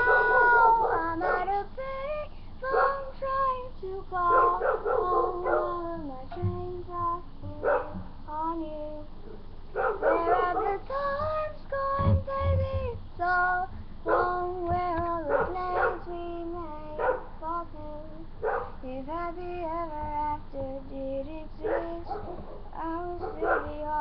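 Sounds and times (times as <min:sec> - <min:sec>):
high voice singing without words: 0:00.0 - 0:09.2, 0:09.9 - 0:24.0.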